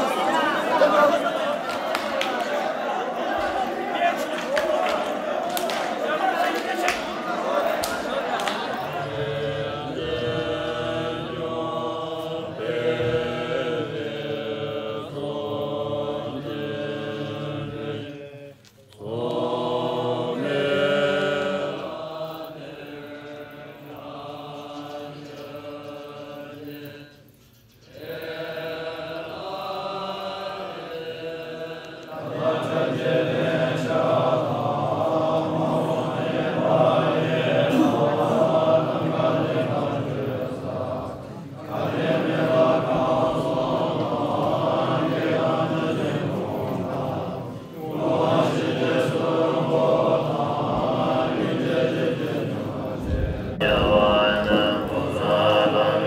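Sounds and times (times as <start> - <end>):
monks chanting in unison: 0.0 - 56.0.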